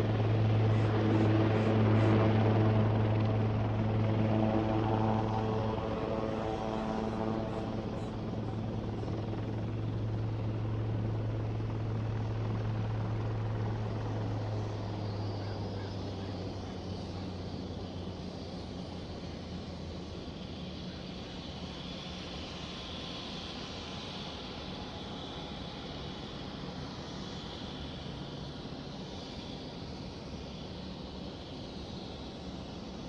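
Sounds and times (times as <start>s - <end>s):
helicopter rotor and engine drone: 0.0s - 33.0s.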